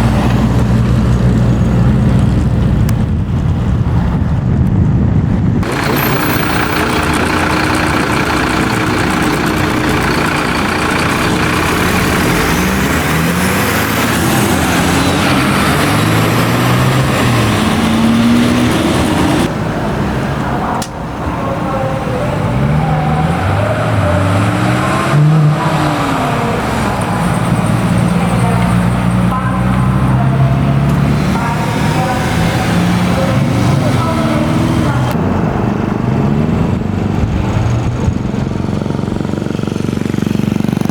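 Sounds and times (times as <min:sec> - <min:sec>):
car engines accelerating: 0:00.0 - 0:40.9.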